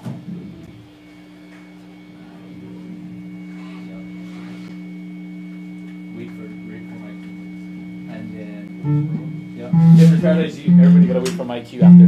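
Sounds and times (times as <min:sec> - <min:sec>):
amplifier electric hum: 0:00.0 - 0:12.0
high whine: 0:00.2 - 0:12.0.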